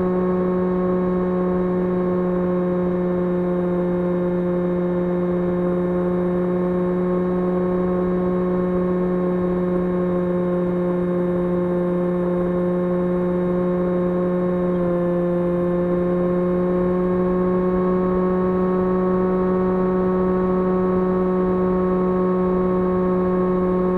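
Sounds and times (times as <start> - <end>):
model aircraft motor whine: 0.0 - 23.9.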